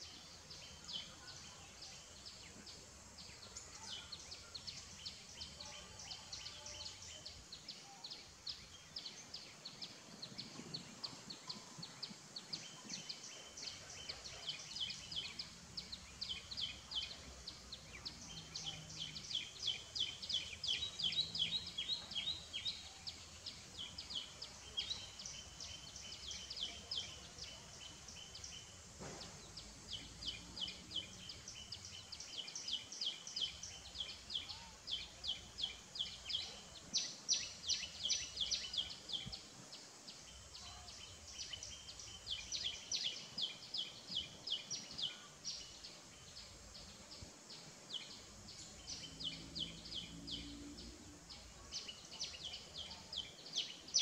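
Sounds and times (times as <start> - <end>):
birds chirping: 0.0 - 54.0
faint outdoor background: 0.0 - 54.0.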